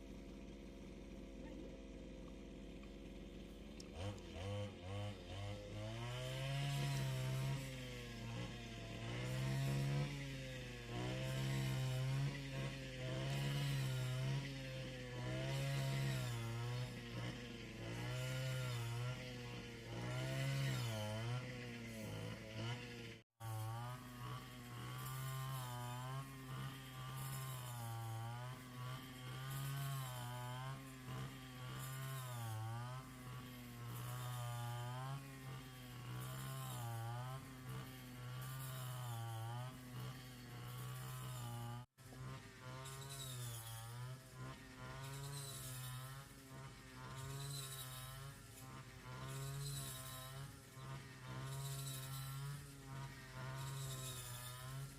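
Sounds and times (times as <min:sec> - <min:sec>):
small petrol engine running: 0:00.0 - 0:54.9.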